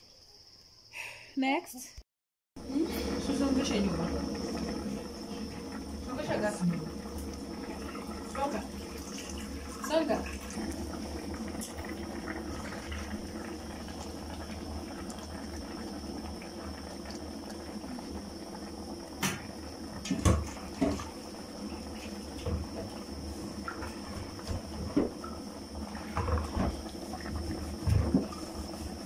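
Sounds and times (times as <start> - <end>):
stew bubbling in a pot: 2.6 - 29.0.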